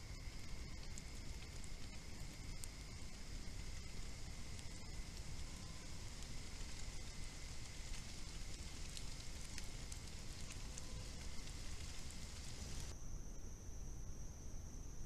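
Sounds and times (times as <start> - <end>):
faint ticks: 0.0 - 13.0
crackly background hiss: 0.0 - 15.0
night insects trilling: 0.0 - 15.0.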